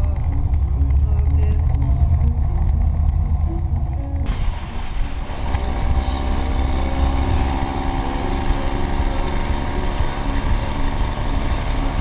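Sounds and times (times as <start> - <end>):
machinery engine rumbling: 0.0 - 12.0.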